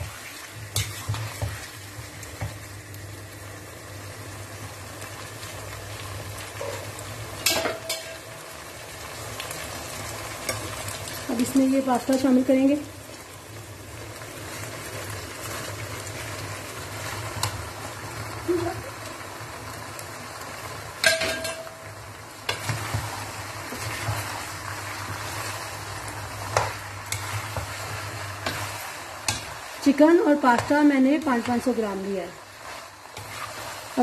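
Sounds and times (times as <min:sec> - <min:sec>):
food sizzling in a wok: 0:00.0 - 0:34.0.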